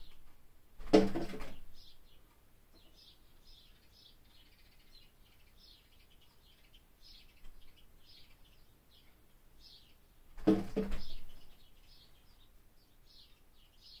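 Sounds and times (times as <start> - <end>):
birds chirping: 1.4 - 14.0.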